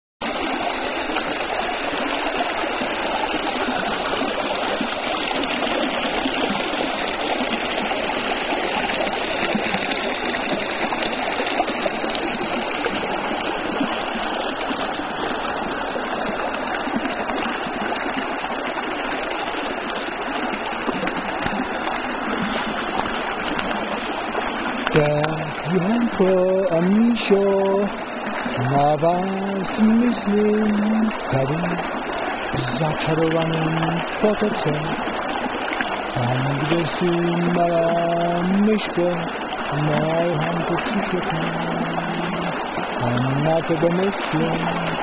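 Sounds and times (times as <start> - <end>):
stream flowing underwater: 0.2 - 45.0.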